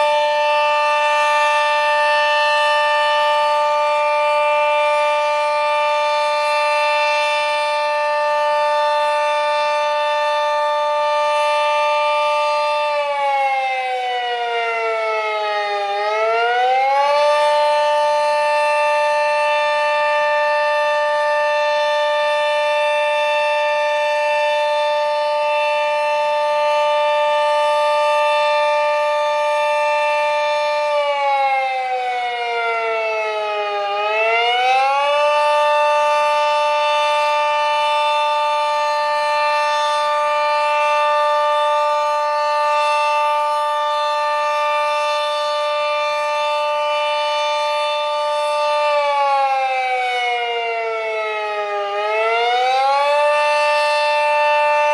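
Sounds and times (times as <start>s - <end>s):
two-tone warning siren: 0.0s - 54.9s.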